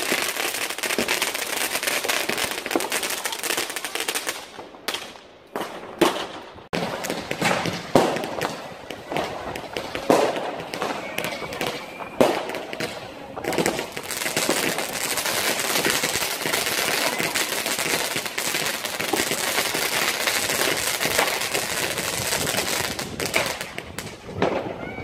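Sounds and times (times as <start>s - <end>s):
firework bangs: 0.0s - 25.0s
fireworks crackling: 0.0s - 25.0s.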